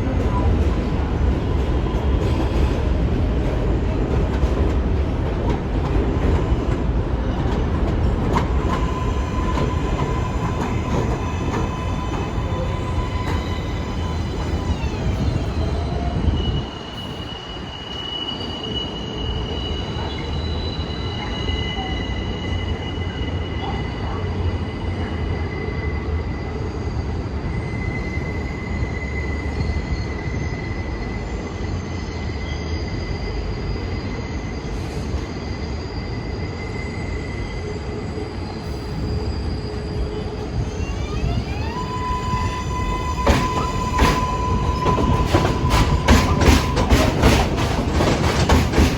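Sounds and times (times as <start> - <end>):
subway train rumble: 0.0 - 48.9
steel wheels squealing: 8.5 - 48.9.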